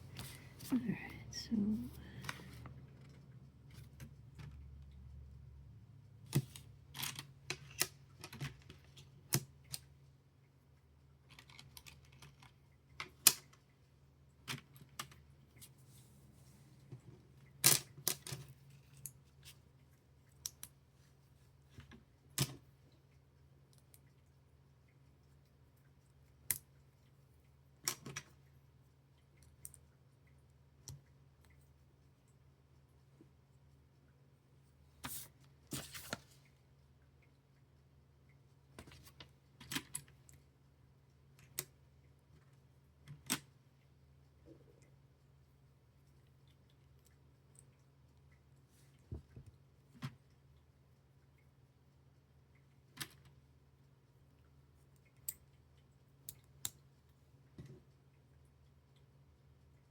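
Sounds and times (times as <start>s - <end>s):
faint steady low hum: 0.0s - 59.9s.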